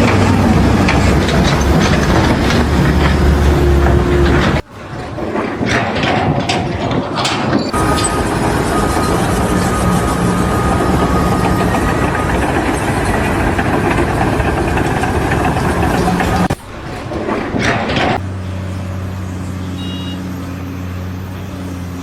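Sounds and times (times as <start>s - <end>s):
engine idling: 0.0s - 22.0s
loud dense machinery noise: 0.0s - 22.0s.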